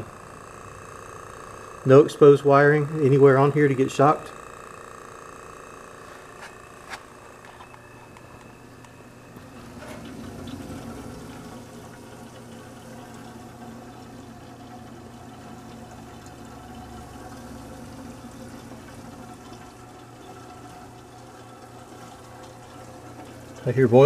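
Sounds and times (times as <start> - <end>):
compressor humming: 0.0 - 24.0
refrigerant boiling: 0.0 - 24.0.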